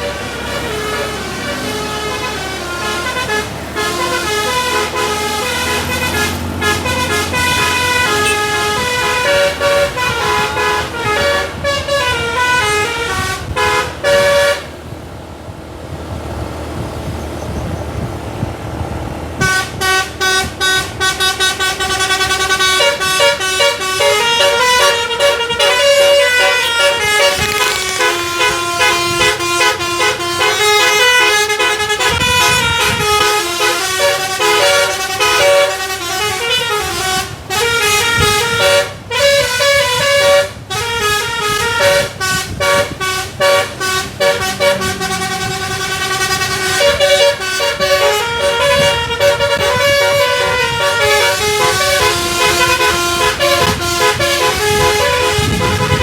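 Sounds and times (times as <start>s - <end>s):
musical air horn melody: 0.0s - 14.7s, 19.4s - 56.0s.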